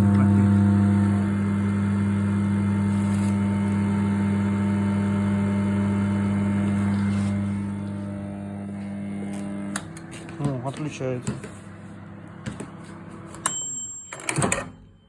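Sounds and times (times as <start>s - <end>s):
microwave oven humming and buzzing: 0.0s - 15.0s.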